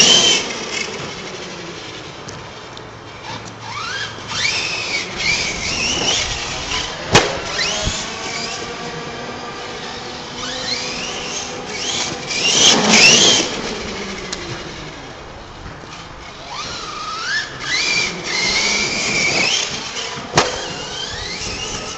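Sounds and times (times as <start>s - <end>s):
radio-controlled car motors whining: 0.0s - 21.9s.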